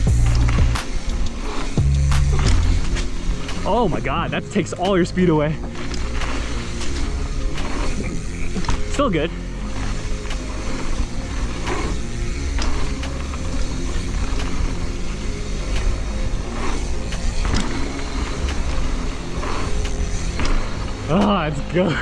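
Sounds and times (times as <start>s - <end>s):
bike rattling over bumps: 0.0s - 22.0s
bike tyres rolling on dirt: 0.0s - 22.0s.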